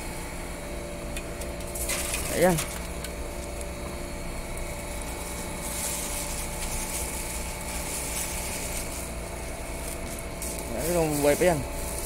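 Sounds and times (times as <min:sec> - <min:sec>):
air-conditioner unit humming: 0:00.0 - 0:12.0.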